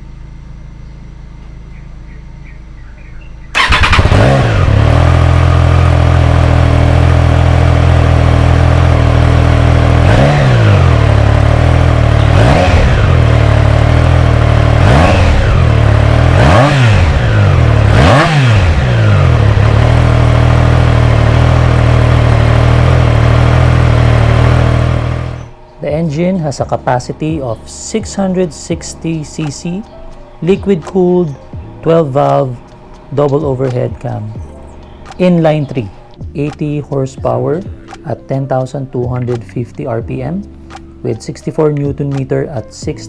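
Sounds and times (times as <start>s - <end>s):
engine revving blips: 0.0s - 38.2s
motorcycle engine idling: 0.0s - 43.0s
motorcycle engine starting: 0.0s - 43.0s.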